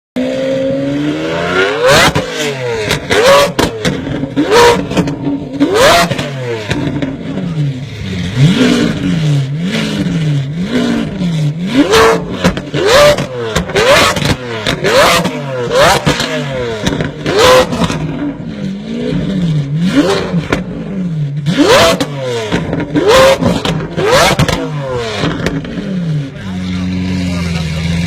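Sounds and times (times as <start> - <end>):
car engine revving: 0.2 - 28.0
exhaust cracks: 1.9 - 28.0.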